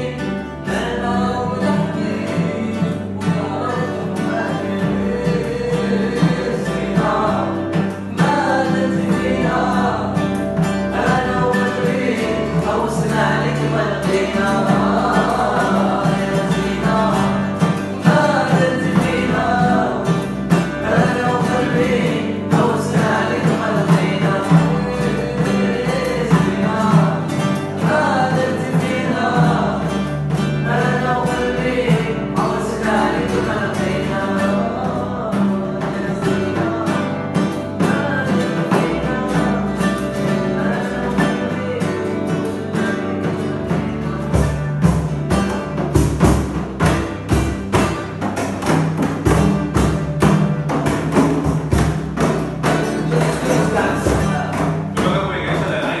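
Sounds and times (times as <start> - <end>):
acoustic guitars strummed: 0.0 - 56.0
hand drum strokes: 0.0 - 56.0
voices singing together: 0.0 - 56.0.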